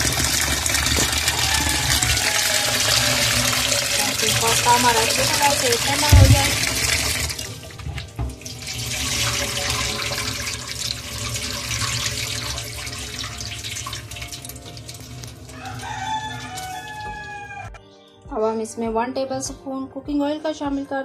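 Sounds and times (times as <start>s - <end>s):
tap water splashing in sink: 0.0s - 17.4s.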